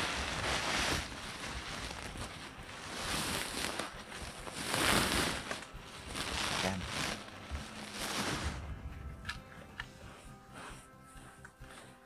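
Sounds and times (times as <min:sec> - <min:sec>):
potting soil scooped and poured: 0:00.0 - 0:12.0.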